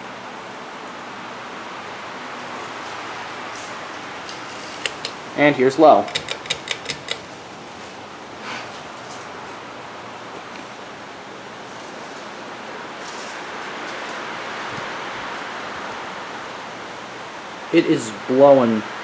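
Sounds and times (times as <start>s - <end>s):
ceiling fan rushing air: 0.0s - 19.0s.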